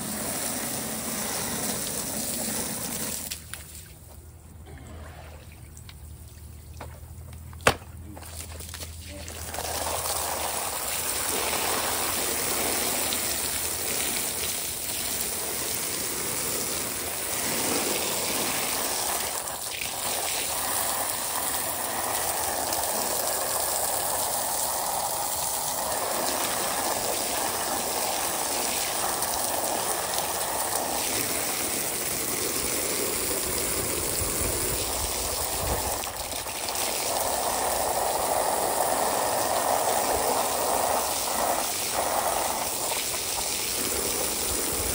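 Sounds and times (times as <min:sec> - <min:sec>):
garden hose spraying water: 0:00.0 - 0:04.7, 0:05.6 - 0:44.9
water splashing on concrete: 0:00.0 - 0:44.9.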